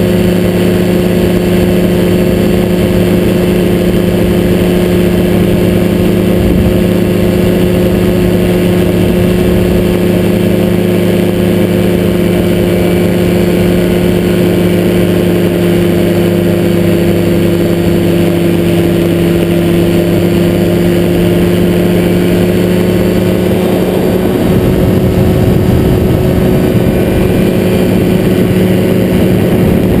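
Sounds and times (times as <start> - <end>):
engine and propeller drone: 0.0 - 30.0
rushing air: 2.6 - 30.0.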